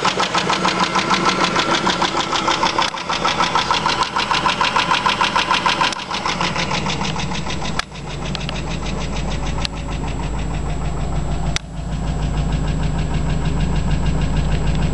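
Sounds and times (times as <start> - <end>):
car engine idling: 0.0 - 14.9
engine ticking: 0.0 - 14.9.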